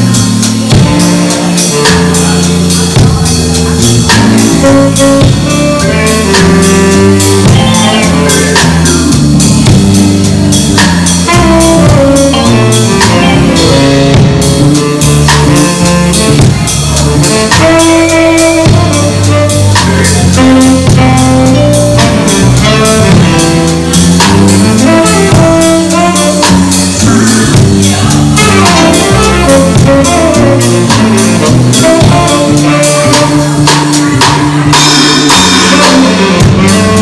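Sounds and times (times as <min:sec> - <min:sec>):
drum kit: 0:00.0 - 0:37.0
electric bass: 0:00.0 - 0:37.0
keyboard: 0:00.0 - 0:37.0
tenor saxophone melody: 0:00.0 - 0:37.0.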